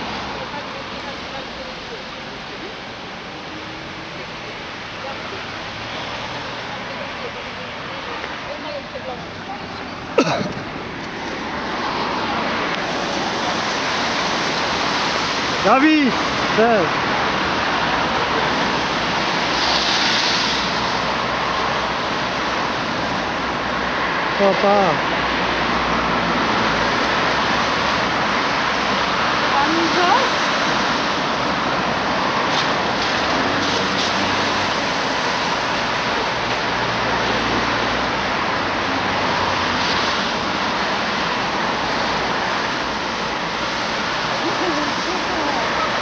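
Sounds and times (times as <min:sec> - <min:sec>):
bus rushing noise: 0:00.0 - 0:46.0
traffic: 0:00.0 - 0:46.0.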